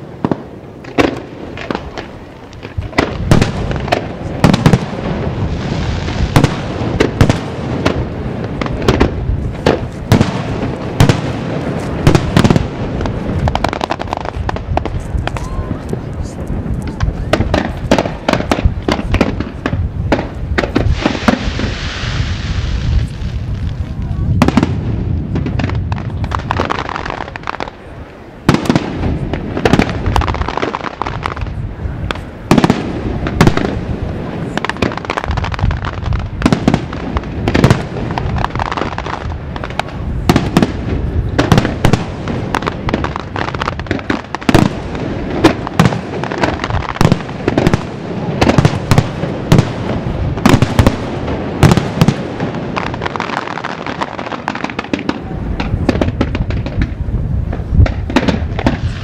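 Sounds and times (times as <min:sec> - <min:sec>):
fireworks bursting with sharp bangs: 0:00.0 - 0:59.0
fireworks crackle: 0:00.0 - 0:59.0.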